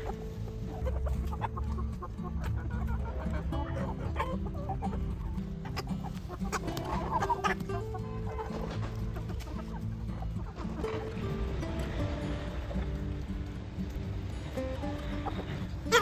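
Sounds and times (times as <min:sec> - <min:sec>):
background music with low notes: 0:00.0 - 0:16.0
chickens clucking: 0:00.0 - 0:16.0.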